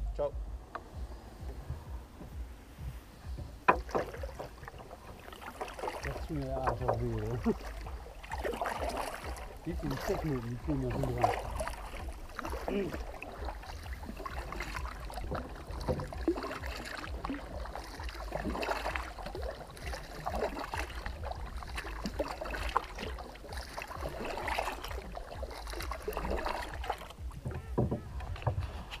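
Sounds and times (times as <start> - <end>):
steady low rumble: 0.0 - 29.0
paddle strokes splashing water: 0.6 - 29.0.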